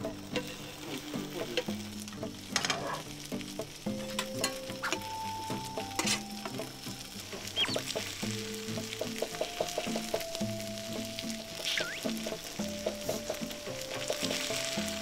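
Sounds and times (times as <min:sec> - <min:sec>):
oil crackling: 0:00.0 - 0:15.0
potatoes sizzling in hot oil: 0:00.0 - 0:15.0
soft background music: 0:00.0 - 0:15.0.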